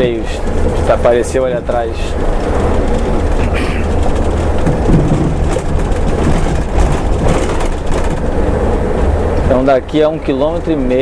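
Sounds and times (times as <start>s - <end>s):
diesel engine running: 0.0s - 11.0s
road and tyre noise: 0.0s - 11.0s.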